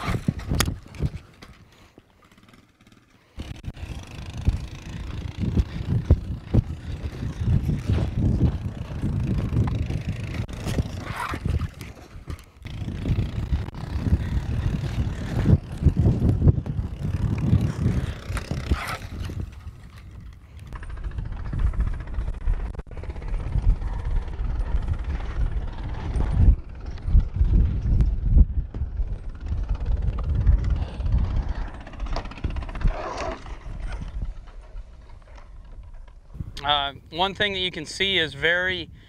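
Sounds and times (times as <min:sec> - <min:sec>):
atv engine running: 0:00.0 - 0:37.4.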